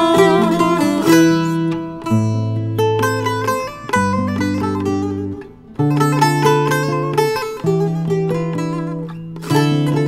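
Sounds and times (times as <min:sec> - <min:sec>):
acoustic guitar: 0:00.0 - 0:10.0
long-necked lute: 0:00.0 - 0:10.0.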